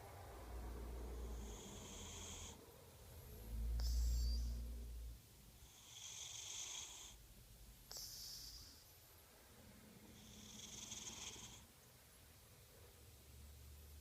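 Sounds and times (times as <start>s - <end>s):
cat snoring faintly: 0.0s - 11.8s.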